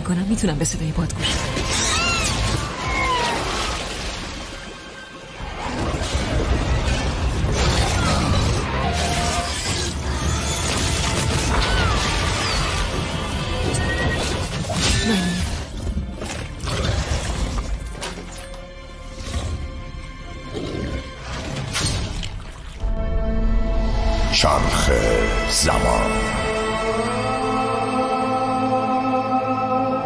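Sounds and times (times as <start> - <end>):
dramatic trailer music: 0.0 - 30.0.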